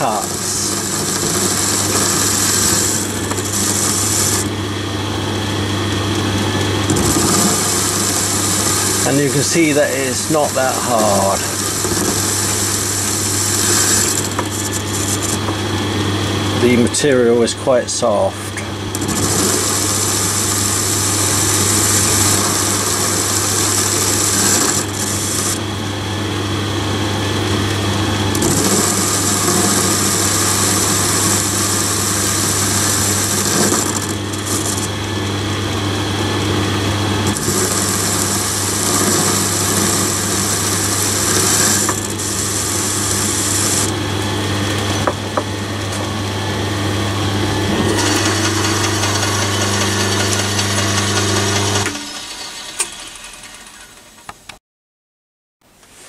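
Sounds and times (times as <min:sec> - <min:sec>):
lathe motor hum: 0:00.0 - 0:54.4.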